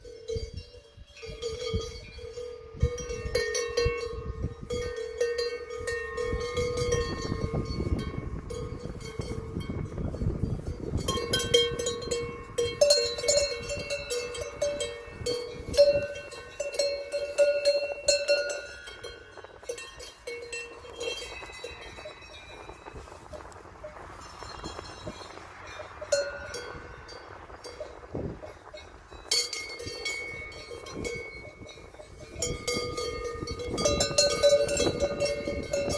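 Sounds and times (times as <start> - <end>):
cowbells clanking: 0.0 - 35.9.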